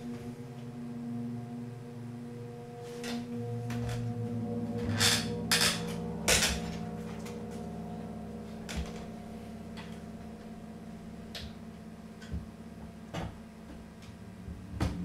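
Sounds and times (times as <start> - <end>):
singing bowls ringing: 0.0 - 13.6.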